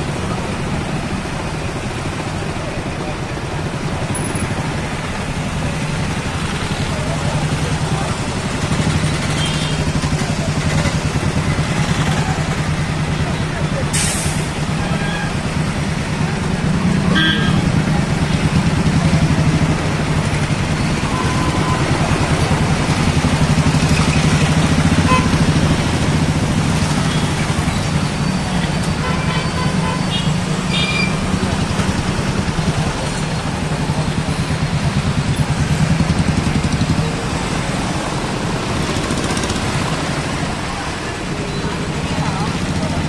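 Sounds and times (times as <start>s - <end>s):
bus engine running: 0.0s - 43.0s
rickshaw and motorcycle engines: 0.0s - 43.0s.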